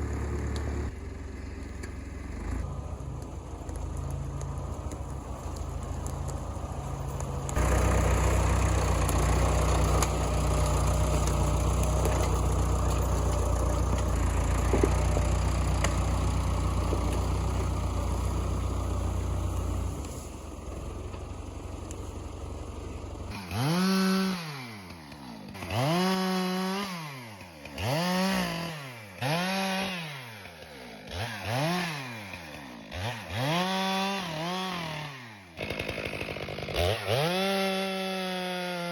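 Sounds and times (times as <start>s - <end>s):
chainsaw revving: 0.0s - 1.2s, 7.4s - 38.9s
tractor engine running: 0.0s - 38.6s.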